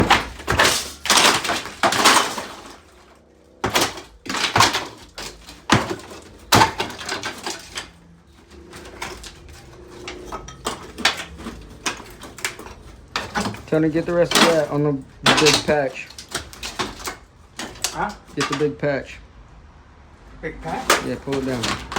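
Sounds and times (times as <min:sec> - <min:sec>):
demolition bangs and crashes: 0:00.0 - 0:19.4, 0:20.2 - 0:21.9.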